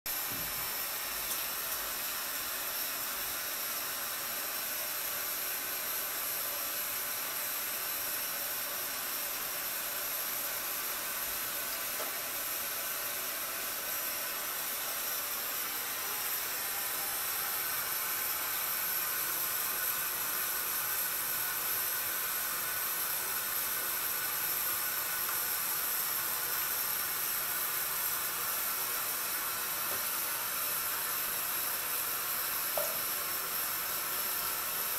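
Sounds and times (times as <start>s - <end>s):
steady hiss: 0.1s - 34.9s
thin high whine: 0.1s - 34.9s.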